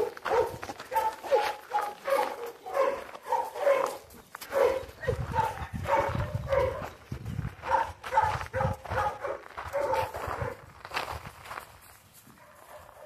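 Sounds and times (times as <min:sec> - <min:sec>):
dog barking: 0:00.0 - 0:07.0, 0:07.7 - 0:10.6, 0:12.4 - 0:13.0.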